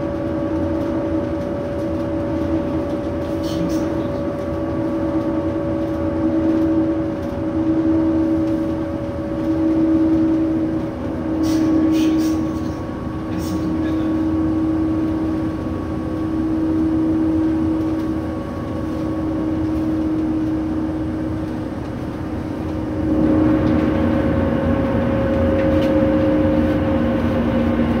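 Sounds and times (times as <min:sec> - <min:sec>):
lower hum: 0:00.0 - 0:28.0
vehicle running noise from inside: 0:00.0 - 0:28.0.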